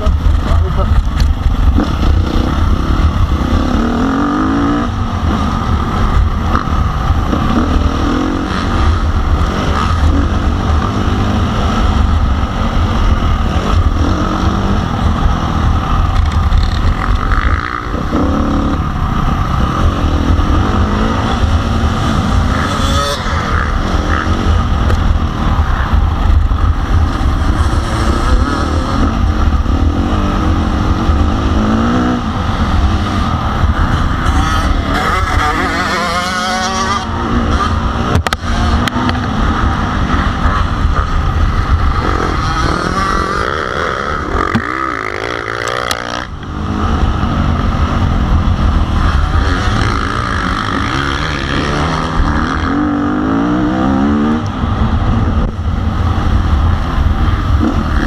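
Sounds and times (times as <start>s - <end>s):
motorbike engine revving: 0.0s - 58.0s
wind rumble on microphone: 0.0s - 58.0s.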